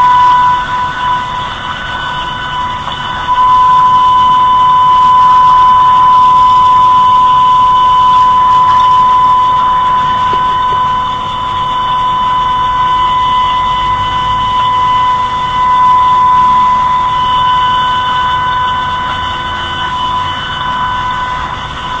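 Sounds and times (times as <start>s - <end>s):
siren steady high tone: 0.0s - 22.0s.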